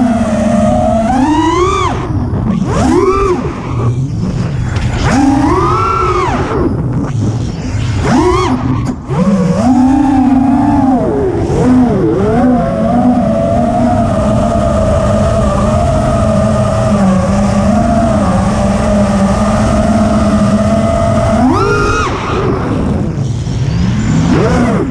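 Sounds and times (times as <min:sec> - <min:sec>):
quadcopter motors and propellers: 0:00.0 - 0:24.9.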